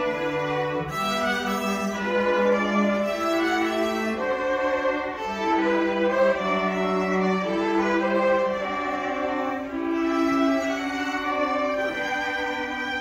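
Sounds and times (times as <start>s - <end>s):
string orchestra playing chords: 0.0s - 13.0s.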